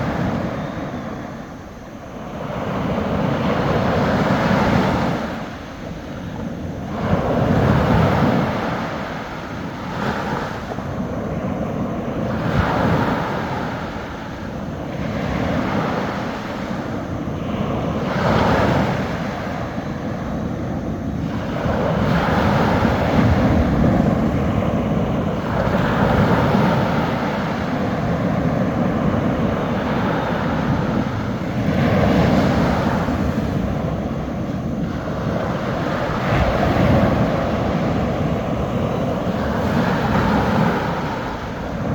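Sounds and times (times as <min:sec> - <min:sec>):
waves washing up a beach: 0:00.0 - 0:41.9.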